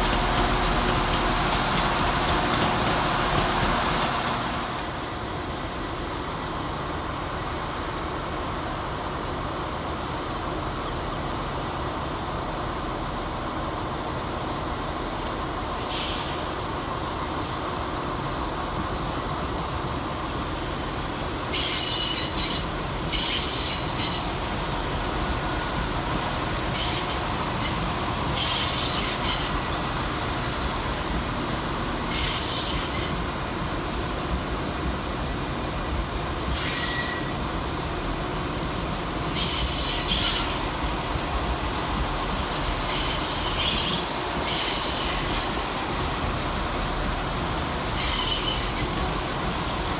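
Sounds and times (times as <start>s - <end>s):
diesel railcar rumbling past: 0.0s - 49.9s.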